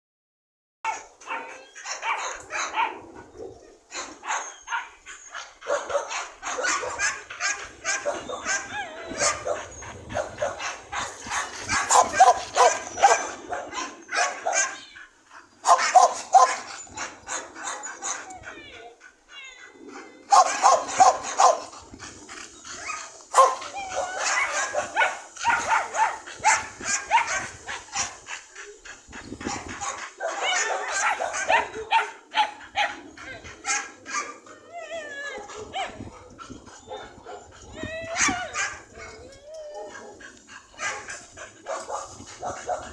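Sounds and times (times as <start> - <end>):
dog barking and yipping: 0.9 - 14.9, 15.6 - 18.9, 20.0 - 21.7, 22.8 - 28.8, 29.4 - 34.4, 35.3 - 42.9.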